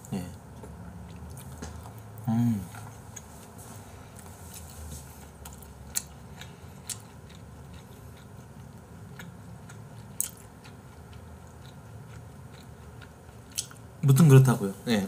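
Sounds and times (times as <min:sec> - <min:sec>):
person chewing: 0:00.6 - 0:13.9.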